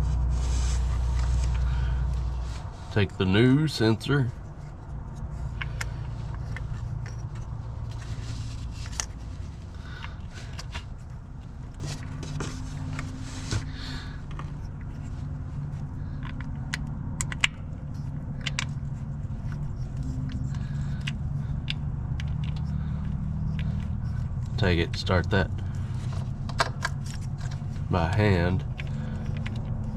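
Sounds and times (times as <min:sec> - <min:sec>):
steady low rumble: 0:00.0 - 0:29.9
light clicks taps and scrapes: 0:00.4 - 0:29.9.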